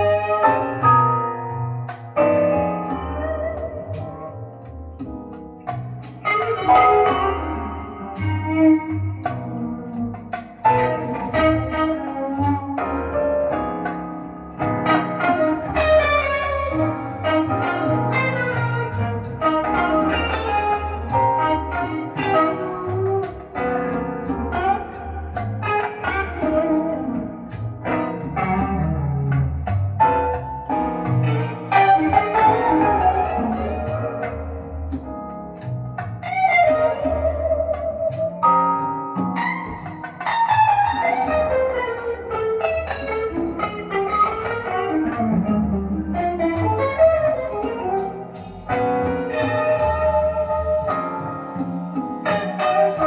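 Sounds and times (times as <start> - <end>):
bass line: 0.0 - 53.0
instrumental song with guitar and piano: 0.0 - 53.0.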